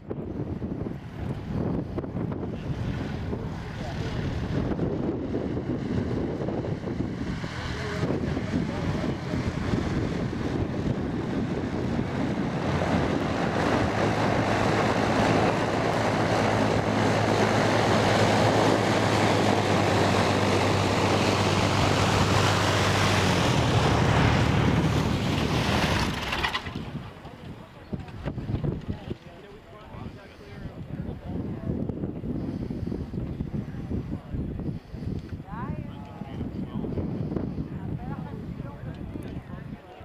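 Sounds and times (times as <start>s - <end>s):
propeller aircraft drone: 0.0s - 40.0s.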